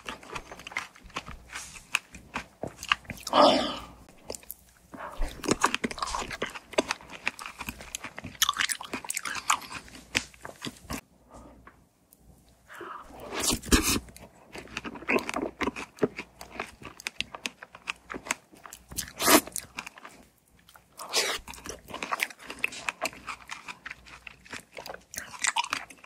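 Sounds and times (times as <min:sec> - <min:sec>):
biting and chewing food: 0:00.0 - 0:03.4, 0:04.1 - 0:11.0, 0:13.0 - 0:26.0.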